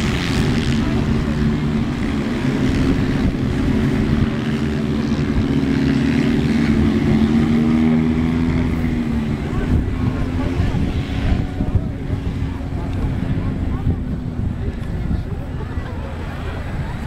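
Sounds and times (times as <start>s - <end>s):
engines idling: 0.0s - 17.0s.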